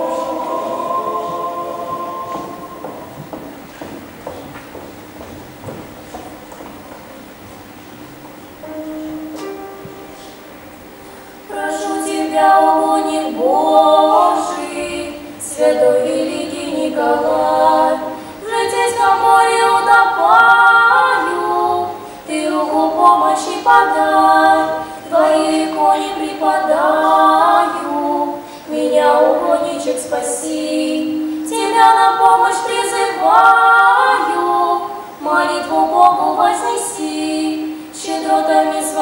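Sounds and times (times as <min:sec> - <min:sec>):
girls singing a sacred song: 0:00.0 - 0:04.0, 0:11.3 - 0:39.0.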